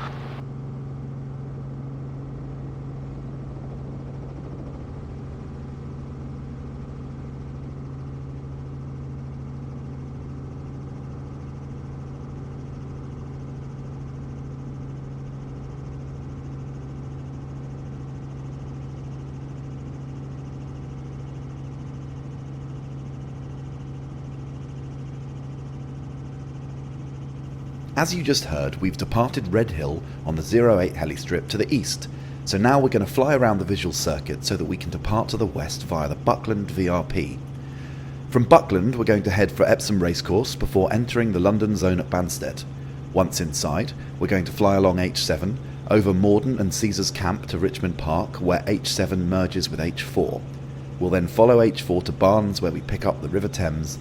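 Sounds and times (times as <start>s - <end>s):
helicopter engine and rotors drone: 0.0s - 54.0s.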